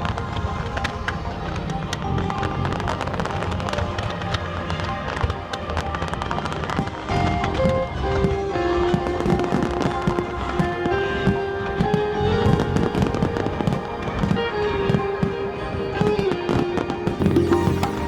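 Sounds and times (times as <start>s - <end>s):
music with held melody: 0.0s - 18.0s.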